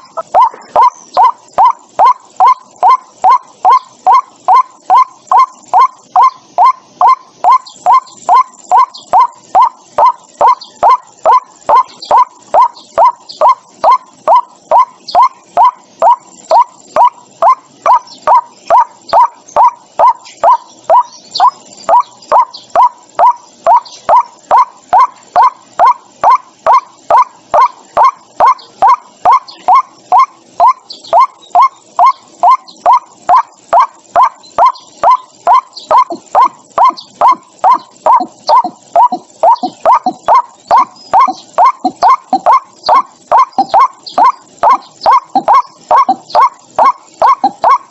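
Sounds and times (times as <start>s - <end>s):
waterhen harsh calls: 0.0s - 47.9s.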